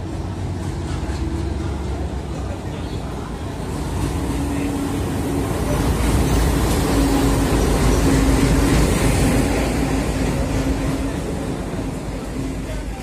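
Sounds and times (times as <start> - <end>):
diesel locomotive passing: 0.0 - 13.0
train coaches rumbling on rails: 0.0 - 13.0.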